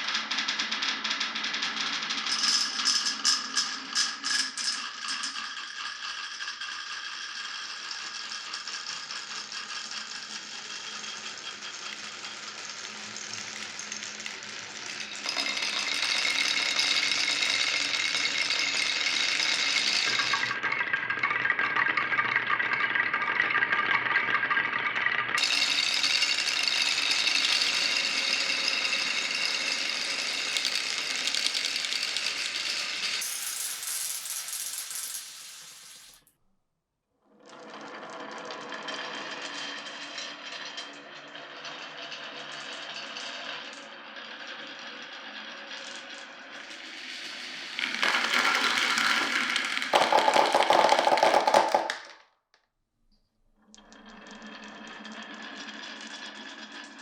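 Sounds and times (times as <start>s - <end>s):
marbles rolling on wooden track: 0.0s - 36.3s, 37.4s - 52.3s, 53.7s - 57.0s.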